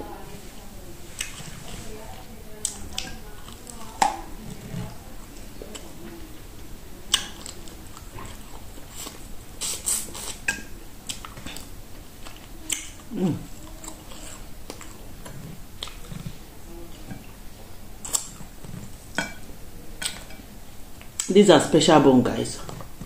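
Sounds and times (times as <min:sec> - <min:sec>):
person chewing meat off bones: 0:02.6 - 0:21.3, 0:22.6 - 0:23.0.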